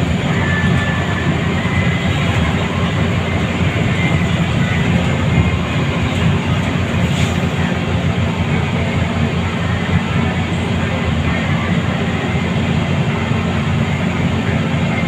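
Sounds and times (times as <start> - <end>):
bus engine drone: 0.0 - 15.0
road and tyre noise: 0.0 - 15.0.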